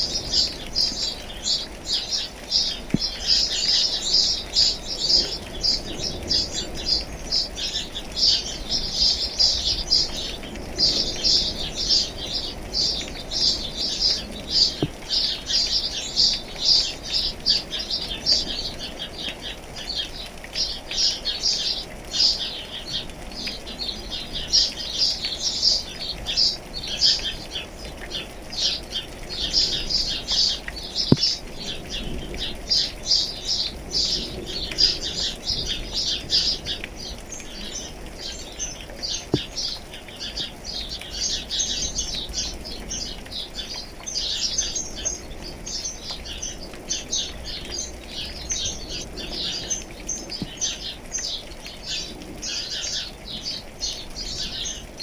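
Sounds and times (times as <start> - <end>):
light rain hiss: 0.0 - 55.0
small birds chirping: 0.0 - 55.0.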